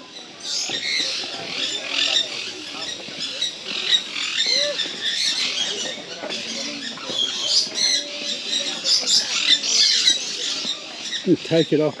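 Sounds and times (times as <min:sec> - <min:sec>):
parrots squawking and chattering: 0:00.1 - 0:12.0.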